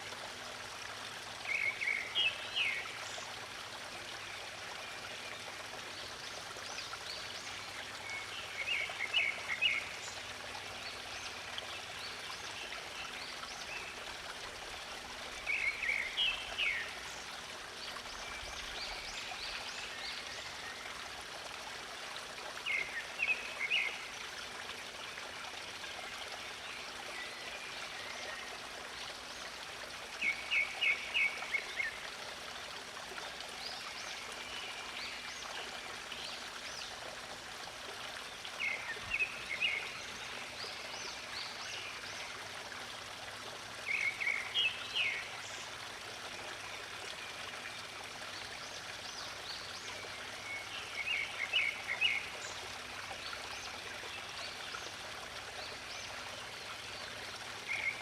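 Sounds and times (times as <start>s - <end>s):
water flowing: 0.0s - 58.0s.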